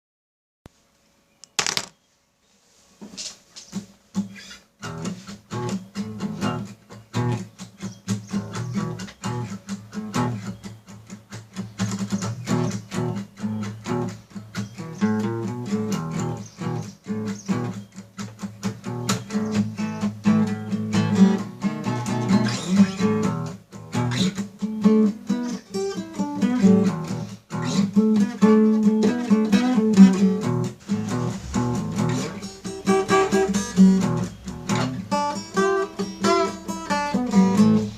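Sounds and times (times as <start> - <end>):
acoustic guitar music: 3.9 - 37.9.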